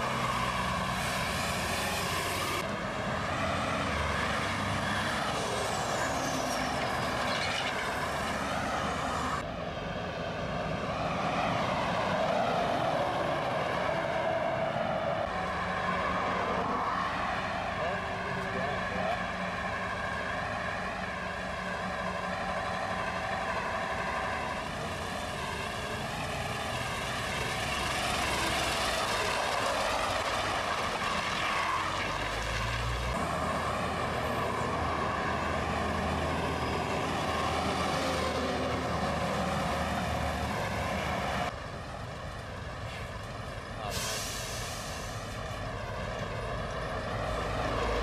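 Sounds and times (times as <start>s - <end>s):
trucks driving past: 0.0s - 48.0s.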